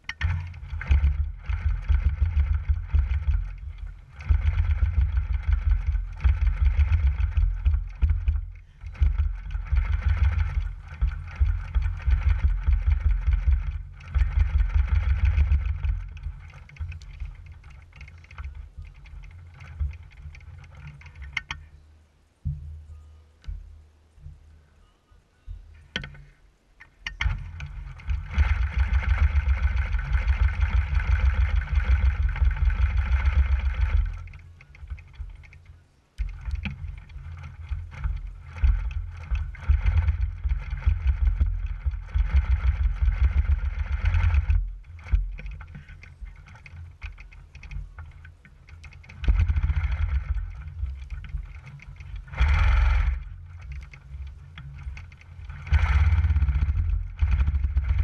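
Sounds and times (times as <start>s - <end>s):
quilting machine motor and needle: 0.0s - 21.8s, 25.9s - 58.0s.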